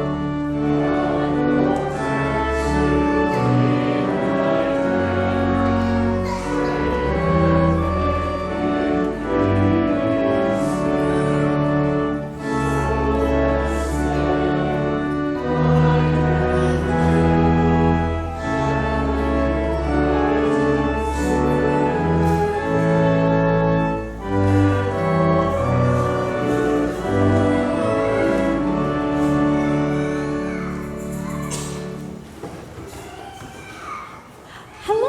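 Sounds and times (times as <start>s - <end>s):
church organ playing held chords: 0.0s - 32.3s.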